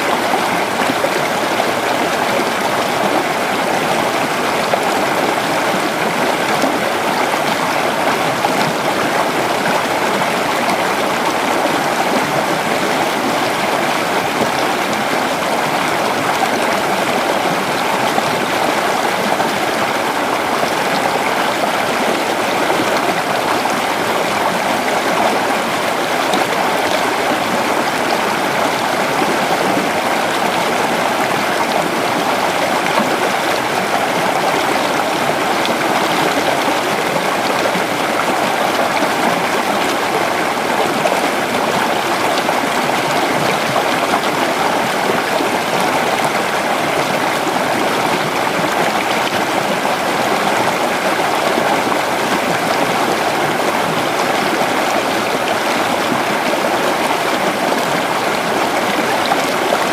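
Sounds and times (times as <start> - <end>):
water flowing over stones: 0.0 - 59.9.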